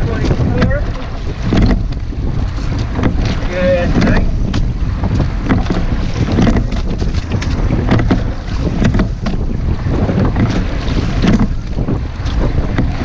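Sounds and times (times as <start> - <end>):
oar blades splashing: 0.0 - 13.0
oars knocking in oarlocks: 0.0 - 13.0
wind noise on microphone: 0.0 - 13.0.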